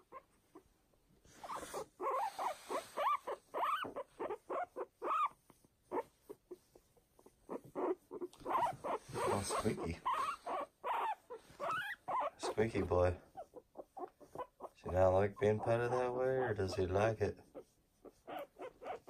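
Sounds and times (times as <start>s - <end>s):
guinea pig squeaking: 0.0s - 0.7s, 1.4s - 19.0s.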